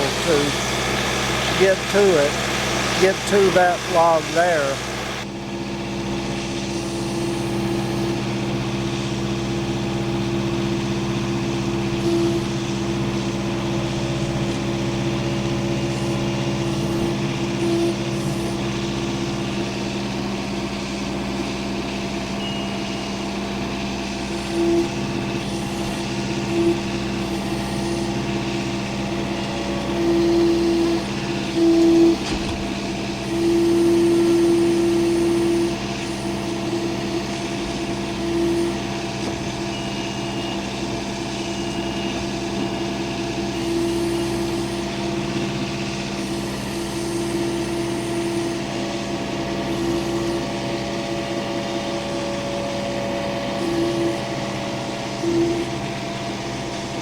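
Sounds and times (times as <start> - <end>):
machine engine running: 0.0 - 57.0.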